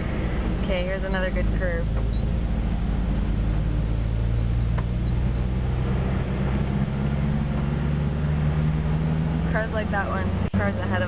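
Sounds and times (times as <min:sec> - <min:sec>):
car engine running: 0:00.0 - 0:11.0
road noise: 0:00.0 - 0:11.0.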